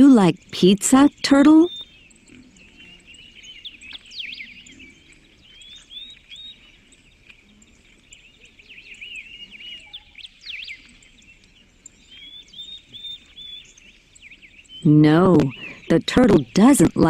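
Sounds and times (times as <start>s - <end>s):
small birds chirping and whistling: 0.0s - 17.0s.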